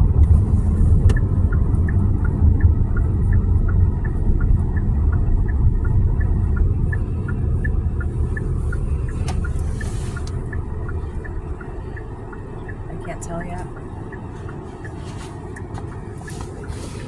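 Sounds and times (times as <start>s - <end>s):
car road and engine rumble: 0.0s - 17.0s
light tick-tock clicking: 0.1s - 16.7s.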